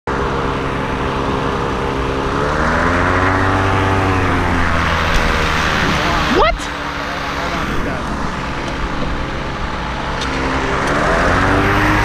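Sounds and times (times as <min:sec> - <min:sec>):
airboat engine and propeller: 0:00.1 - 0:12.0.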